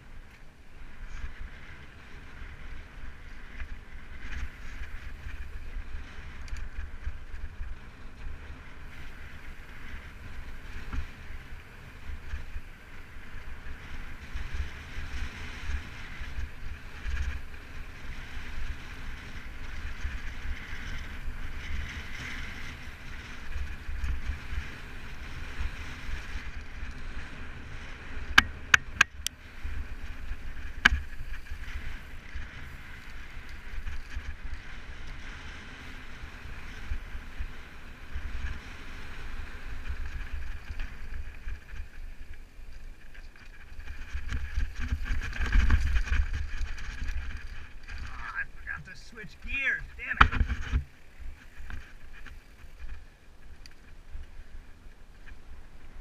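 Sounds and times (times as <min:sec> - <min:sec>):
bike tyres on loose gravel: 0:00.0 - 0:56.0.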